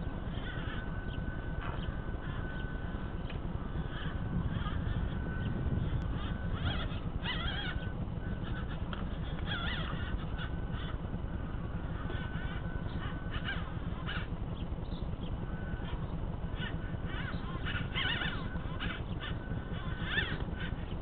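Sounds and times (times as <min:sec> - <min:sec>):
electric motor and gears whining: 0:00.0 - 0:21.0
steady low rumble: 0:00.0 - 0:21.0.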